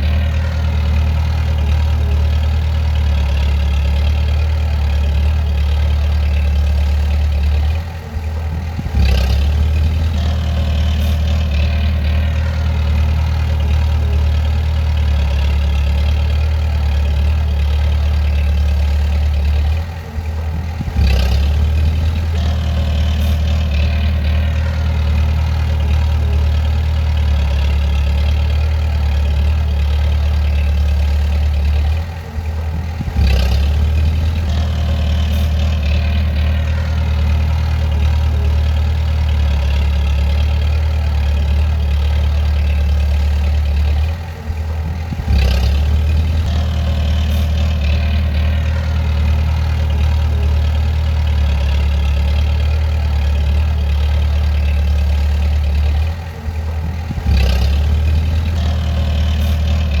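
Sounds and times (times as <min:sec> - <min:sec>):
bulldozer diesel engine droning: 0:00.0 - 1:00.0
sharp engine knock: 0:00.0 - 1:00.0.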